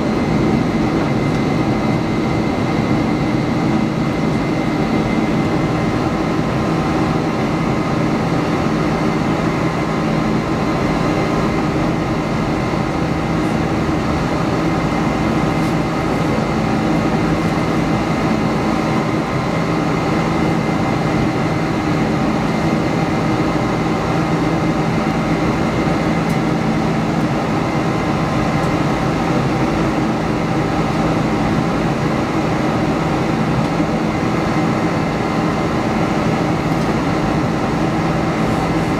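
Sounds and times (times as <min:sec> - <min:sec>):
jet engine noise inside cabin: 0:00.0 - 0:38.9.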